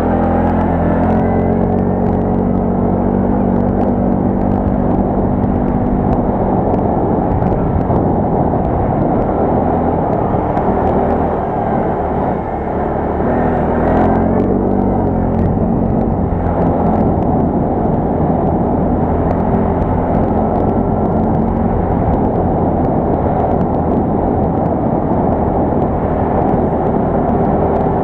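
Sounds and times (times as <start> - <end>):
quad bike engine running: 0.0 - 28.0.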